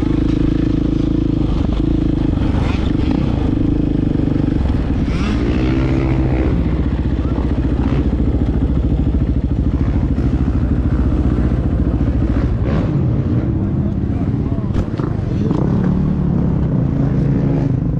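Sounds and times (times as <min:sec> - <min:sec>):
dirt bike engine under throttle: 0:00.0 - 0:17.9.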